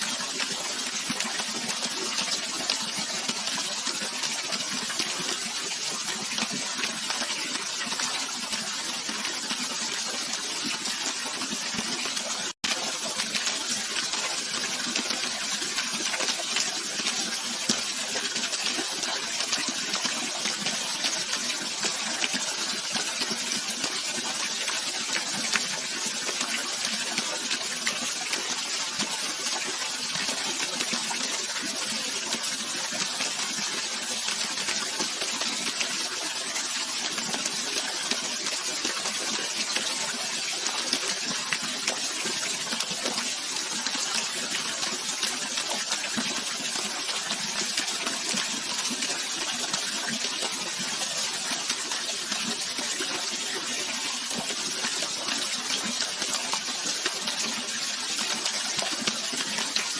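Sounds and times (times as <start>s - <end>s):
running water rushing: 0.0s - 59.9s
water splashes and drips: 0.0s - 59.9s.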